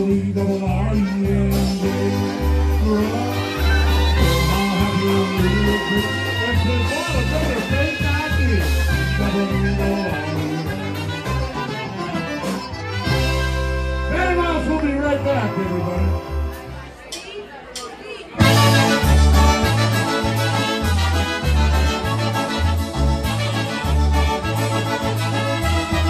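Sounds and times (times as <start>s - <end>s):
trumpets and saxophone: 0.0s - 16.9s, 18.4s - 26.0s
bass line: 0.0s - 17.1s, 18.4s - 26.0s
drums: 0.0s - 26.0s.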